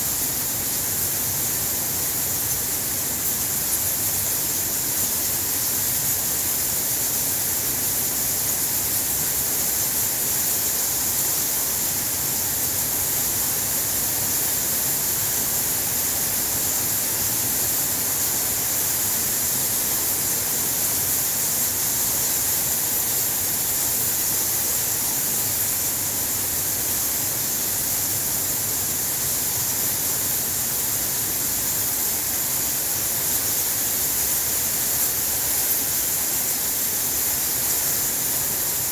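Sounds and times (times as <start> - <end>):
steady high-pitched hiss: 0.0 - 38.9.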